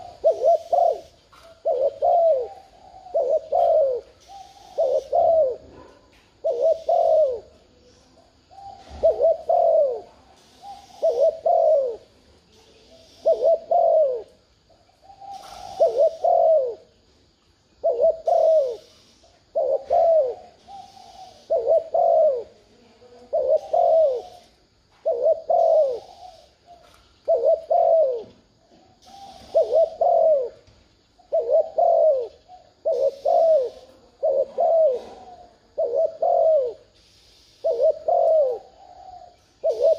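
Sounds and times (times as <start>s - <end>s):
dove cooing: 0.0s - 17.1s, 17.7s - 39.9s.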